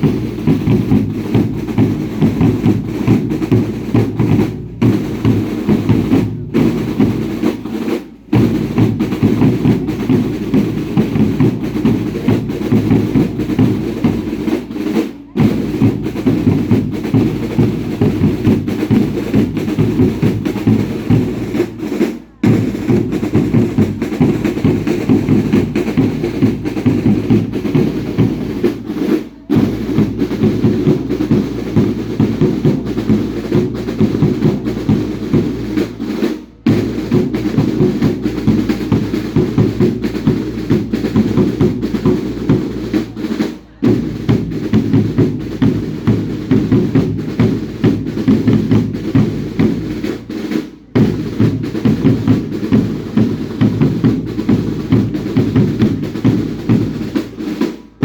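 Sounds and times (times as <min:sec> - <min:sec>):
drums beating fast rhythm: 0:00.0 - 0:58.0.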